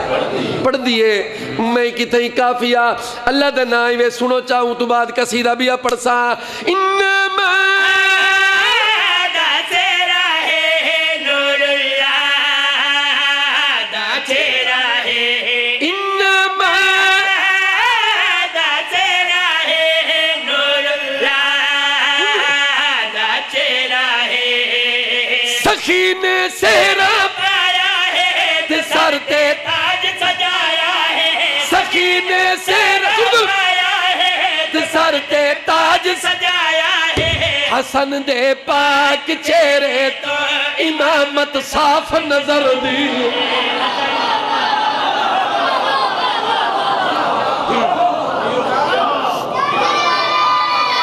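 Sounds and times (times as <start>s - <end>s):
men singing into microphones: 1.4s - 46.2s.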